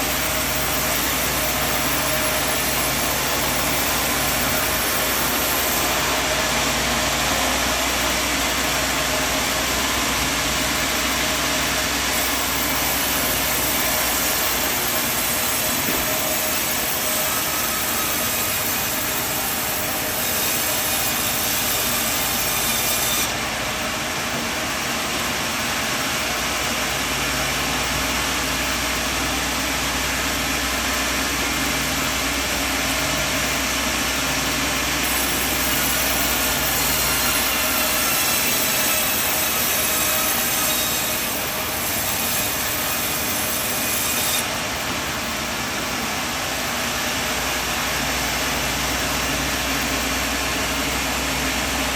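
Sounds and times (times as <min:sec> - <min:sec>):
loud machinery hiss: 0:00.0 - 0:51.9.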